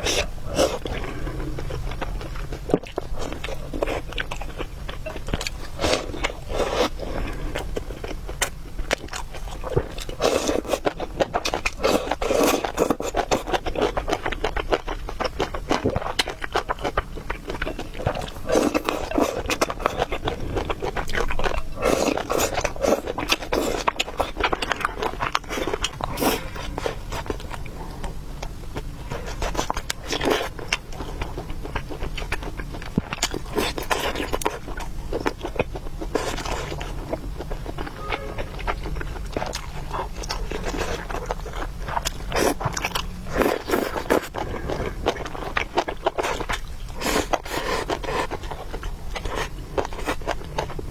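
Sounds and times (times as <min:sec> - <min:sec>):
chewing and wet mouth sounds: 0:00.0 - 0:50.9.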